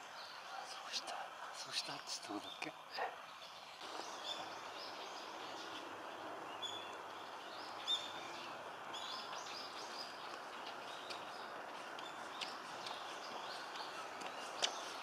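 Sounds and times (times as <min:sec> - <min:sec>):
background hiss: 0:00.0 - 0:15.0
small birds chirping: 0:00.0 - 0:15.0.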